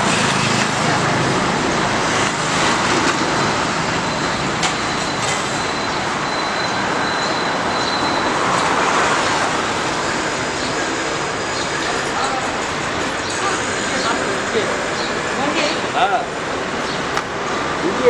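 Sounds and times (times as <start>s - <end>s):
traffic passing: 0.0s - 18.0s.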